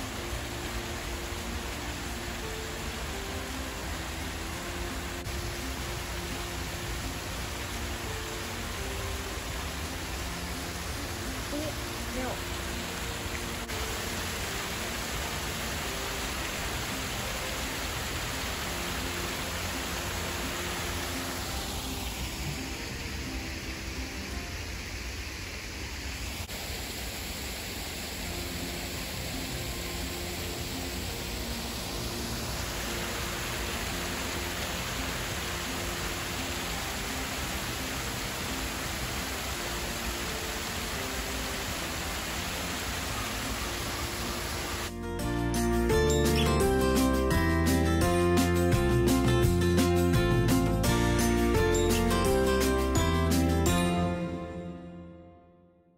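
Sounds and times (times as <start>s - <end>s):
small waterfall splashing: 0.0s - 44.9s.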